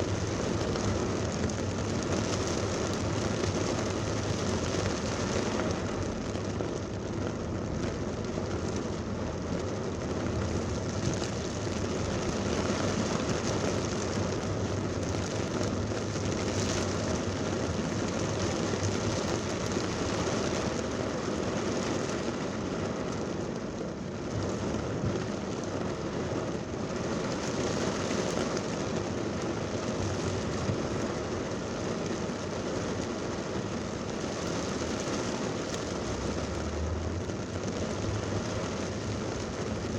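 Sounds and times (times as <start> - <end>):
heavy rain pouring: 0.0 - 39.9
traffic on wet road: 0.0 - 39.9.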